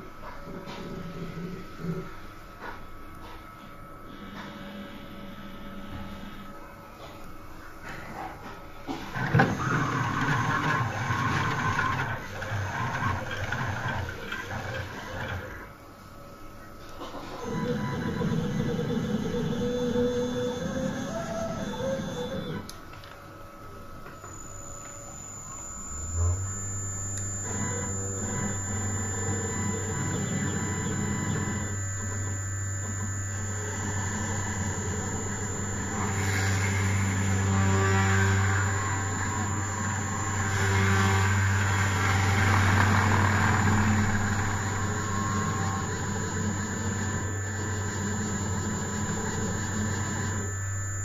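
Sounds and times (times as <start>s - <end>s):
stepper motors humming and whining: 0.0s - 51.0s.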